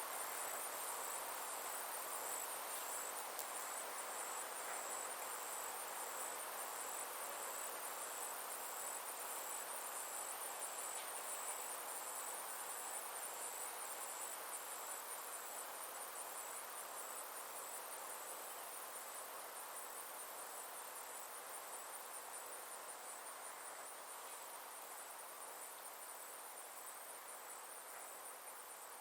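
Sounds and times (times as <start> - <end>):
insects chirring: 0.0 - 29.0
outdoor ambience hiss: 0.0 - 29.0.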